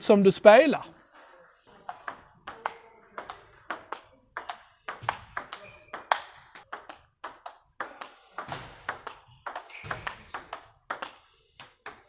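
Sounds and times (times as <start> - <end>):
table tennis ball clicking: 1.8 - 12.0.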